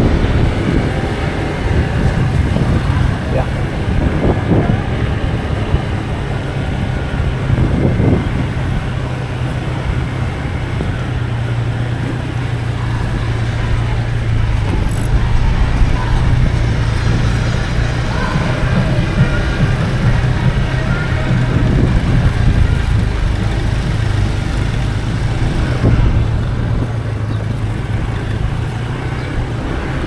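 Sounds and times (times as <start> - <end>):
motorbike engine humming: 0.0 - 30.0
road noise: 0.0 - 30.0.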